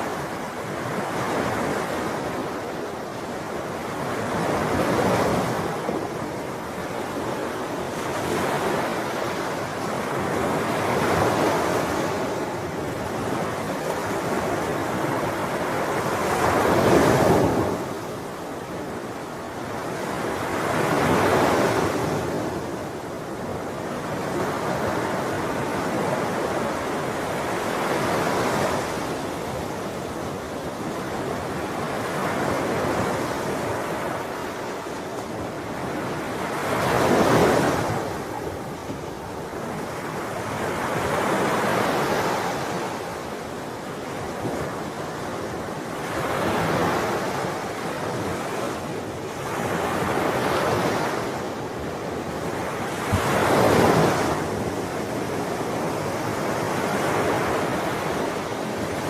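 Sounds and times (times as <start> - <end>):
sea waves breaking on shore: 0.0 - 59.0
wind rumble on microphone: 0.0 - 59.0.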